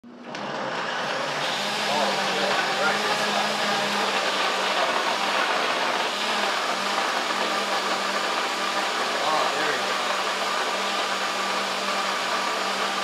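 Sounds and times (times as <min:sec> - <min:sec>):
blender running: 0:00.0 - 0:13.0.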